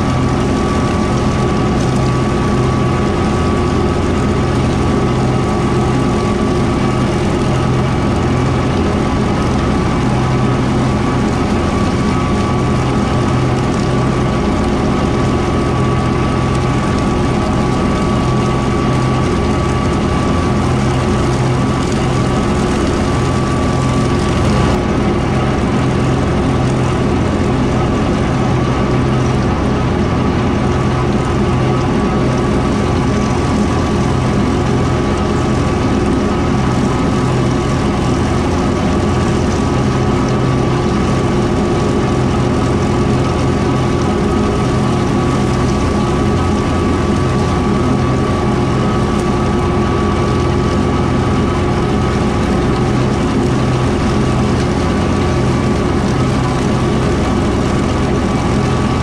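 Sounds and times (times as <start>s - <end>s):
rotary mower whine: 0.0s - 59.0s
tractor diesel engine running: 0.0s - 59.0s.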